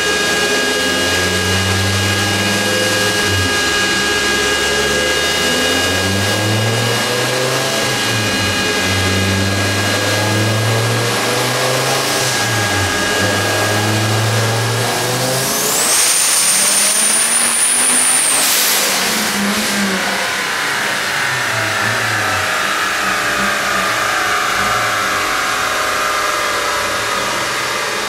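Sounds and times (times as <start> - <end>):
car engine under load: 0.0 - 28.0
high turbo whistle: 0.0 - 28.0.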